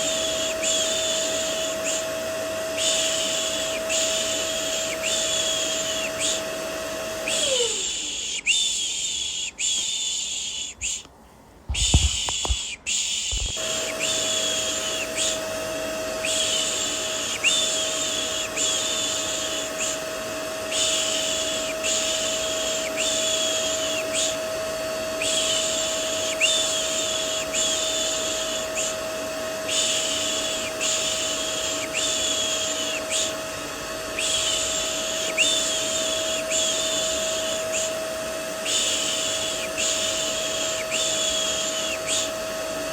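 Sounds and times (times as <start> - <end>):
vacuum cleaner humming: 0.0 - 11.0, 11.7 - 42.9.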